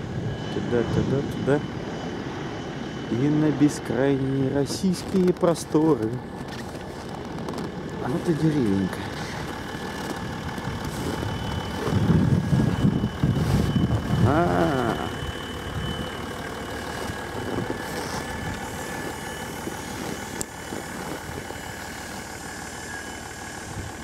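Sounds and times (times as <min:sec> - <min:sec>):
car engine idling: 0:04.4 - 0:24.0.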